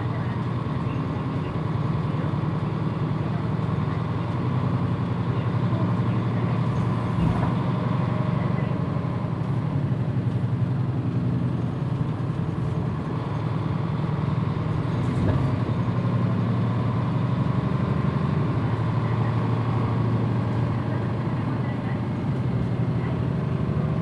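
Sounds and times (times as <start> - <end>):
bus diesel engine humming: 0.0 - 24.0.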